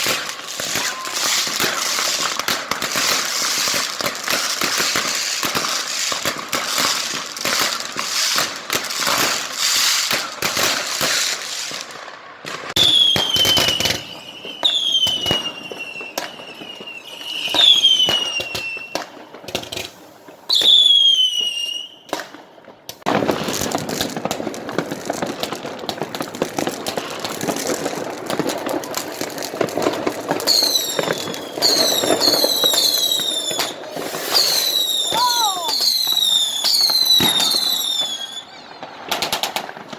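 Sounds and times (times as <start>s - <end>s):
firecrackers crackling: 0.0s - 39.9s
whistling fireworks: 0.0s - 39.9s.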